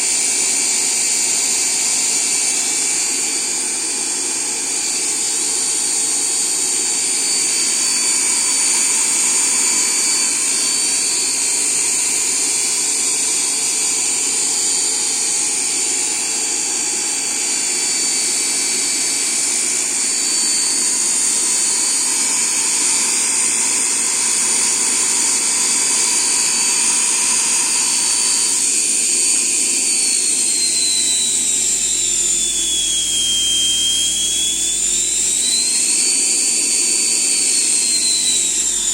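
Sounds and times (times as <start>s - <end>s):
electric motor whining: 0.1s - 38.9s.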